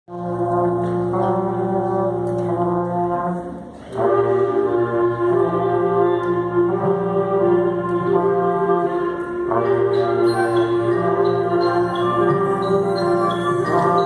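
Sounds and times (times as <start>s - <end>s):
ensemble playing held chords: 0.1s - 14.0s.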